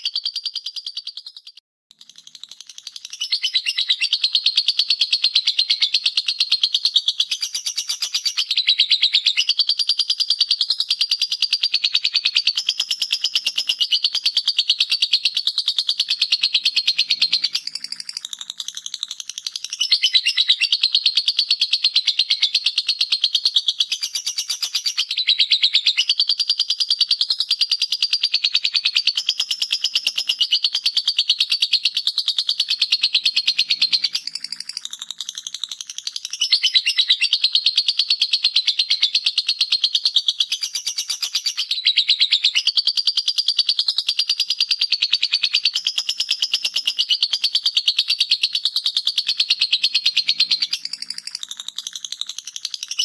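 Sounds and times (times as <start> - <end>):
lovebird chattering trill: 0.0 - 53.0.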